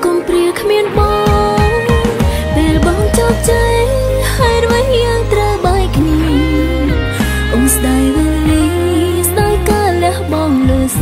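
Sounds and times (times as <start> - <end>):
sliding melody: 0.0 - 11.0
sustained bass notes: 0.8 - 11.0.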